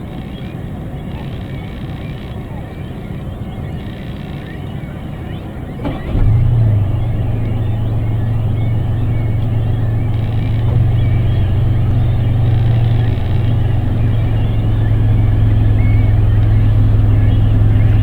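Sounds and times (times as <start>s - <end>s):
faint bird chirps: 0.0s - 18.0s
low motor hum: 0.0s - 18.0s.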